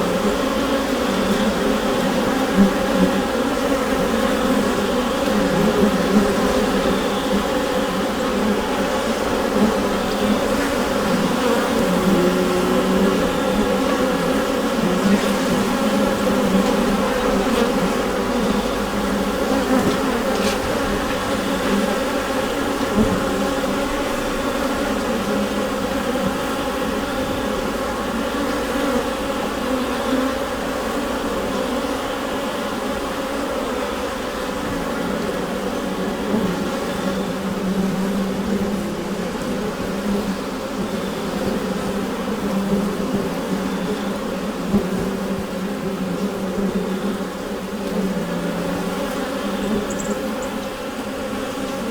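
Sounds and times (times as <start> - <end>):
bees buzzing in hive: 0.0 - 51.9.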